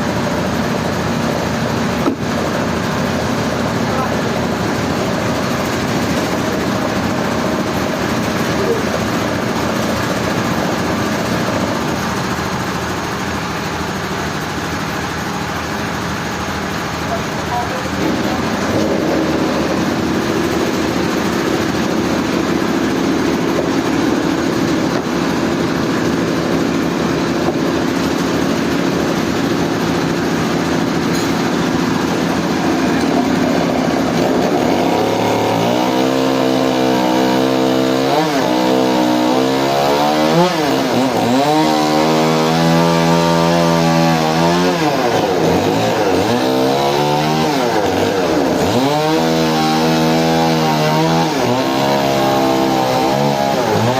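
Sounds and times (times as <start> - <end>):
chainsaw engine running: 0.0 - 53.9.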